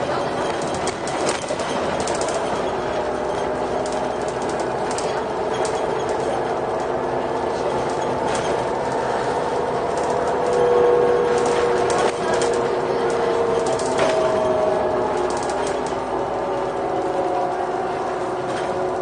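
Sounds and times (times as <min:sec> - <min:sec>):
bus engine drone: 0:00.0 - 0:19.0
transmission whine: 0:02.0 - 0:19.0.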